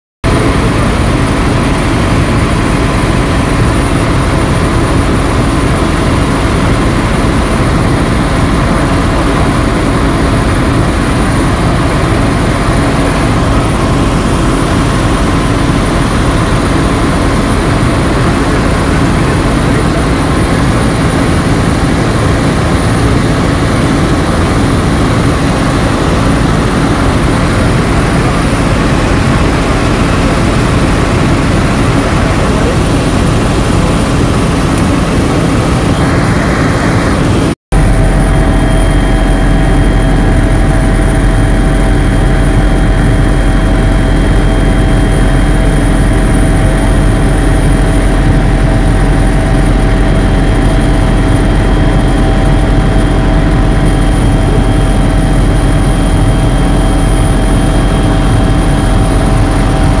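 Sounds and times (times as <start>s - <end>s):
helicopter rotor drone: 0.2s - 60.0s
high turbine whine: 0.2s - 60.0s.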